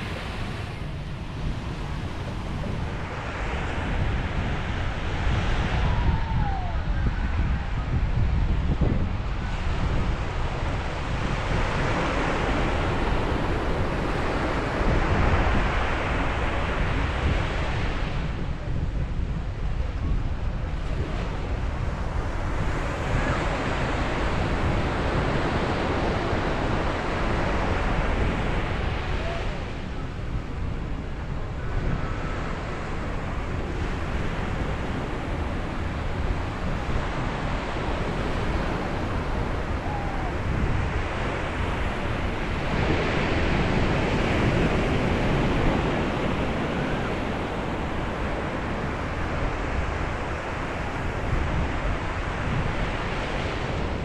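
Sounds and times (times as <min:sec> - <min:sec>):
wind rumble on microphone: 0:00.0 - 0:54.0.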